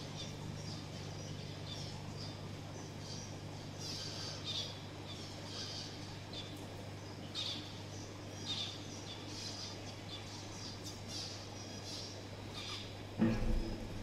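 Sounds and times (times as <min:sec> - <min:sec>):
finches chirping: 0:00.0 - 0:14.0
steady low hum: 0:00.0 - 0:14.0.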